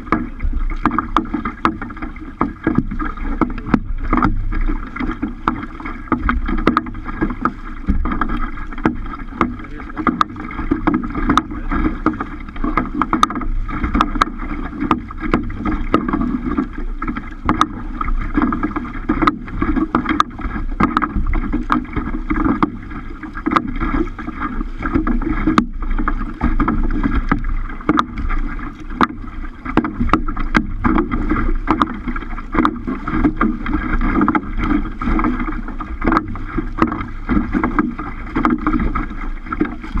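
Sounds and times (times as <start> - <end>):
waves slapping against kayak: 0.0 - 40.0.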